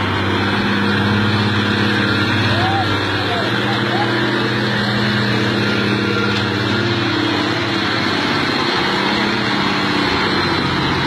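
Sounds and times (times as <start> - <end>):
diesel truck engine pulling hard: 0.0 - 11.0.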